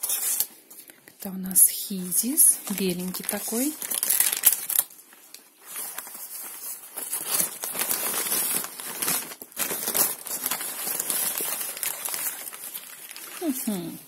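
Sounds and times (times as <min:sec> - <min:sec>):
paper wrapping crinkling: 0:00.0 - 0:01.2, 0:01.9 - 0:14.0.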